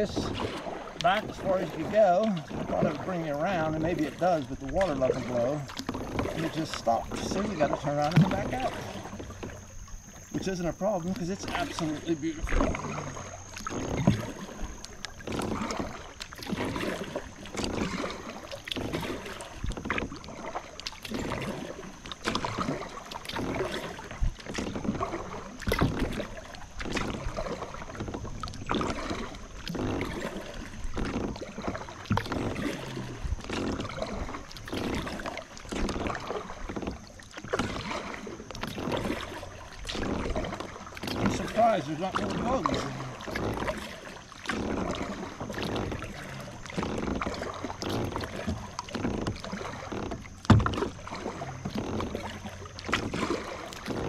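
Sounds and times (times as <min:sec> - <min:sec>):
paddle splashing in water: 0:00.0 - 0:54.0.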